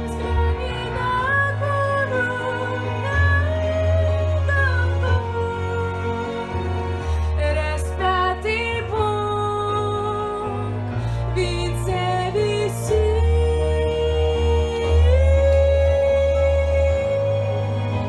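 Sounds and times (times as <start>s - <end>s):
slow gentle instrumental song: 0.0s - 18.0s.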